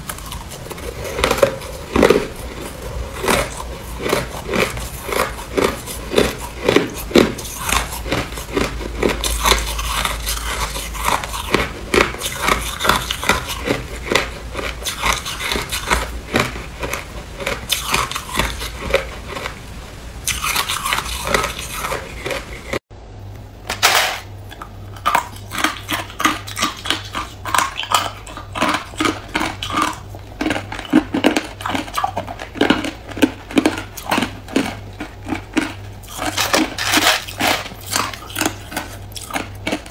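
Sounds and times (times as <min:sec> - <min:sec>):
person chewing ice crunching: 0:00.0 - 0:19.6, 0:20.2 - 0:22.8, 0:24.5 - 0:39.9.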